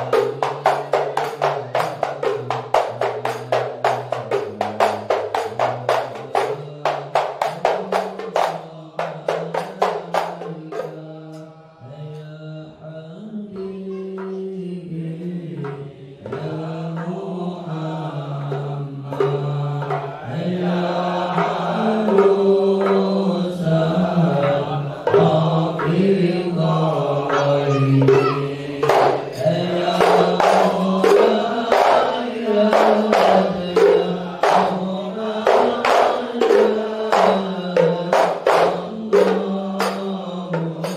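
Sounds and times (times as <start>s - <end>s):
hand-struck frame drums: 0.0s - 11.4s, 15.2s - 40.9s
men chanting in unison: 0.0s - 40.9s.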